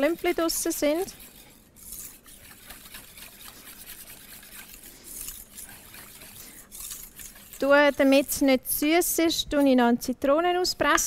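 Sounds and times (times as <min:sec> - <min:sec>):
whisk swishing in metal bowl: 0:00.0 - 0:09.8.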